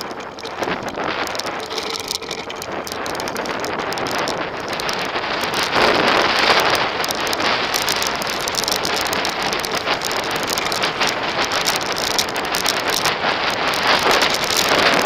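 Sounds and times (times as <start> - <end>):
bike rattling: 0.0 - 15.0
tyres rolling over dirt trail: 0.0 - 15.0
wind buffeting microphone: 0.0 - 15.0.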